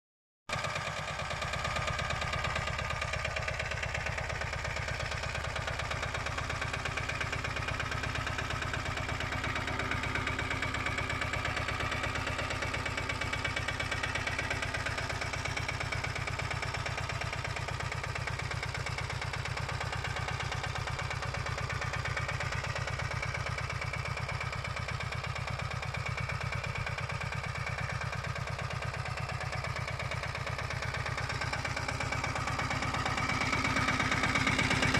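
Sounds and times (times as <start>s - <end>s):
diesel engine running steadily: 0.5s - 34.9s.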